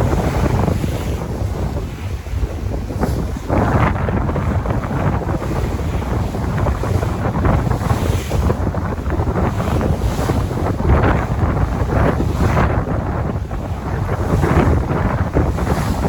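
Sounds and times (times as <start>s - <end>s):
sea surf washing in: 0.0s - 16.0s
wind rumbling on microphone: 0.0s - 16.0s.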